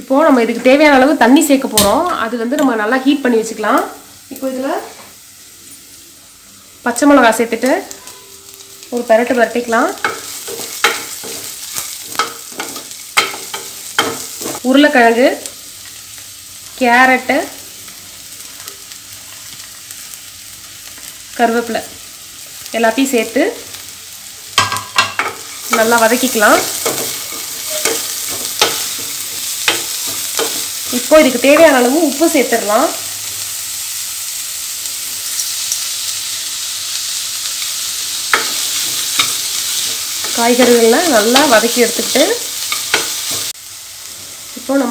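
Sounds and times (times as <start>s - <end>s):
vegetables sizzling in hot oil: 0.0s - 44.9s.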